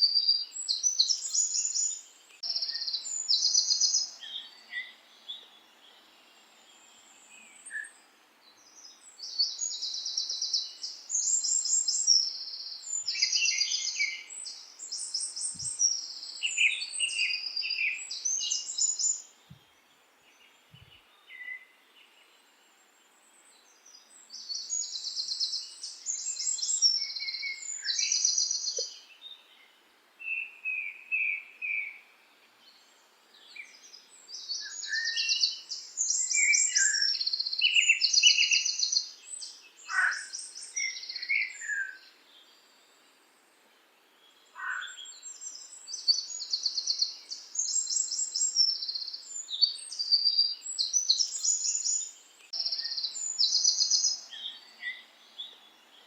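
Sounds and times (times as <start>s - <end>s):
songbirds trilling: 0.0s - 22.2s, 23.6s - 32.0s, 32.7s - 42.6s, 44.1s - 56.0s
faint background hiss: 0.0s - 56.0s.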